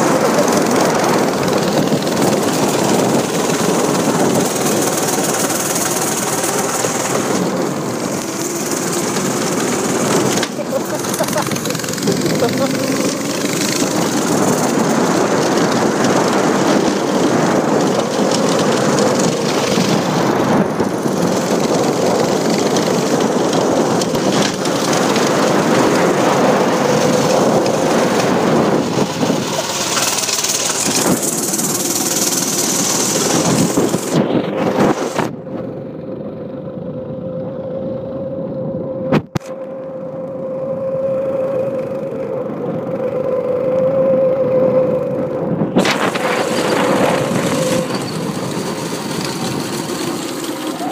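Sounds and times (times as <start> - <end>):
loud rushing noise: 0.0 - 35.7, 44.7 - 50.9
kart engine running hard: 0.0 - 50.9.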